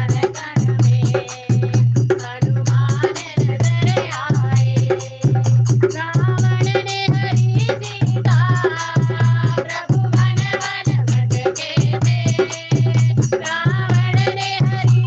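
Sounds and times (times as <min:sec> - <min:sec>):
devotional music with percussion: 0:00.0 - 0:15.0.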